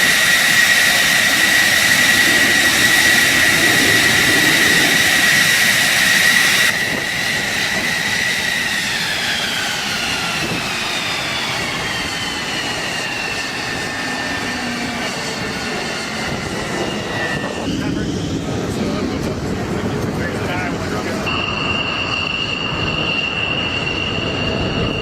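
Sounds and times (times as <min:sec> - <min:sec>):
jet engine whine: 0:00.0 - 0:25.0.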